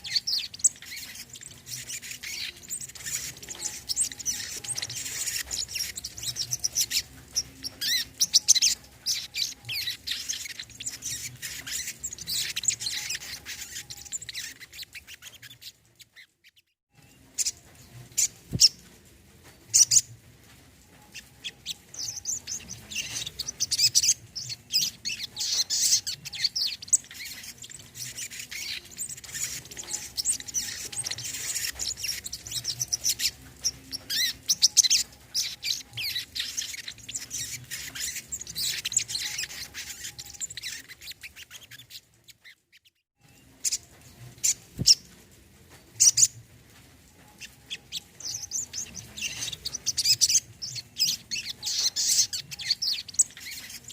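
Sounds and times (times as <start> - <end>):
bird chirping and twittering: 0.0 - 53.9.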